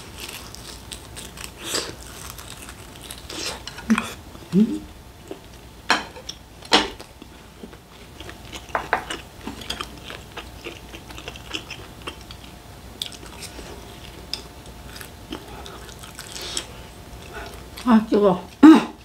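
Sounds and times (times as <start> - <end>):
person chewing food: 0.0 - 17.9.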